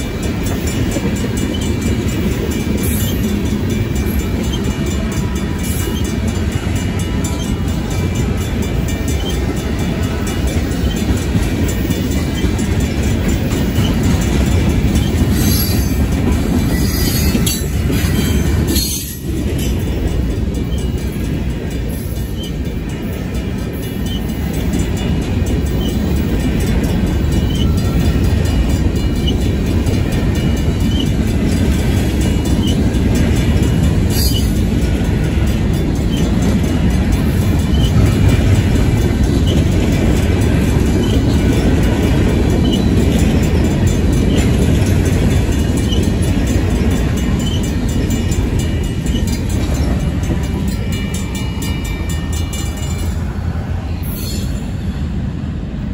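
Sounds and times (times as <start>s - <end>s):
railroad crossing bells ringing: 0.0s - 55.9s
train wheels rumbling over rails: 0.0s - 55.9s.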